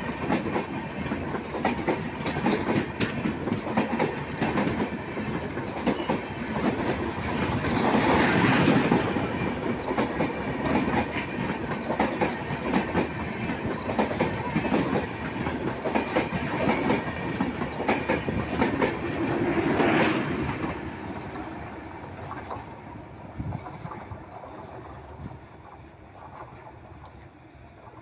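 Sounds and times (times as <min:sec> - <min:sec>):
train wheels clattering over rail joints: 0:00.0 - 0:28.0.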